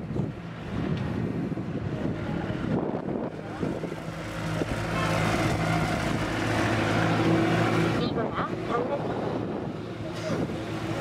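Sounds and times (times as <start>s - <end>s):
steady engine-like hum: 0.0s - 11.0s
street traffic: 0.0s - 11.0s.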